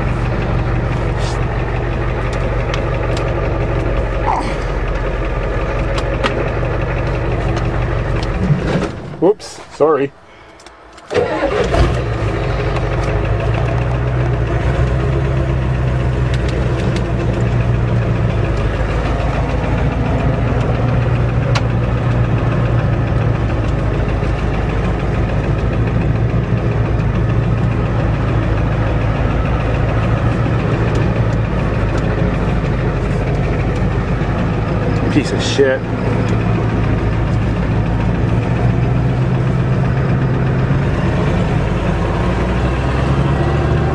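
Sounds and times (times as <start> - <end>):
unmuffled diesel engine running: 0.0 - 43.9.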